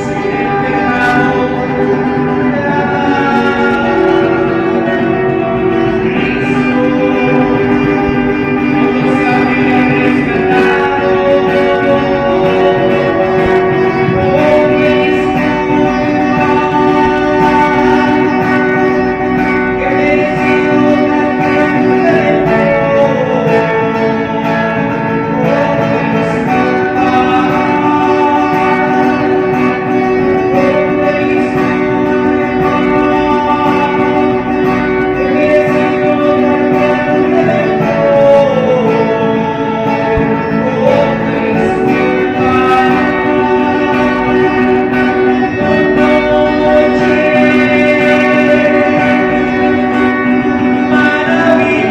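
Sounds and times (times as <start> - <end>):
guitar music: 0.0 - 51.9.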